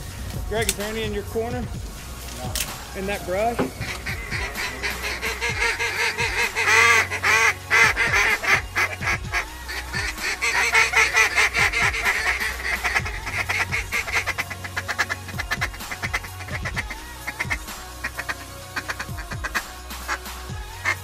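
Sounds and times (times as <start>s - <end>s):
ducks quacking: 2.2s - 21.0s.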